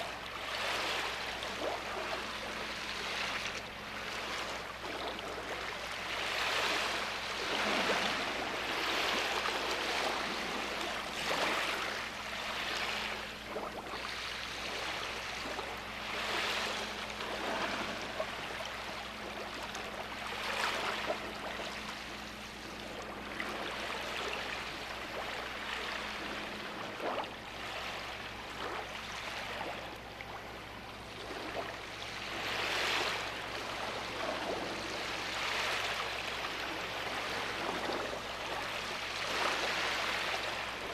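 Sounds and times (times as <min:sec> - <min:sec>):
faint steady hum: 0:00.0 - 0:40.9
sea waves washing ashore: 0:00.0 - 0:40.9.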